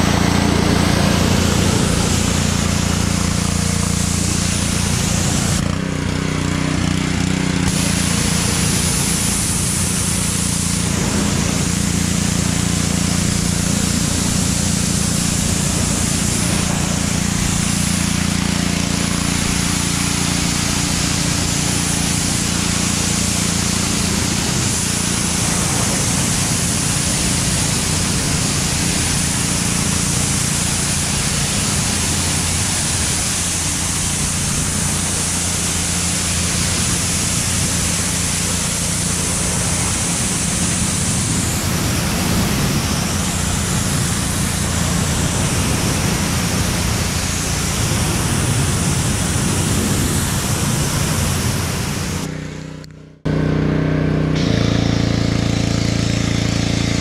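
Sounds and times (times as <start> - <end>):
water jet hissing on metal: 0.0 - 5.7, 6.6 - 52.3
pressure washer engine running: 0.0 - 57.0.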